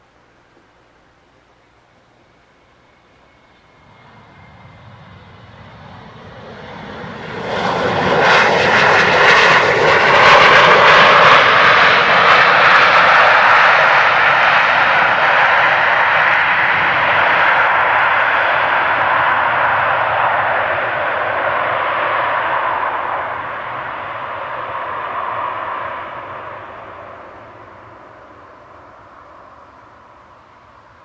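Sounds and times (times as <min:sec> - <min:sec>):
jet engines in reverse thrust: 0:02.5 - 0:31.0.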